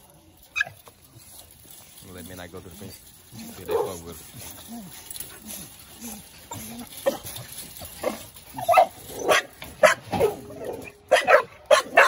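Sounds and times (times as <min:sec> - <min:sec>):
dogs barking excitedly: 0:00.4 - 0:01.4, 0:03.3 - 0:12.0.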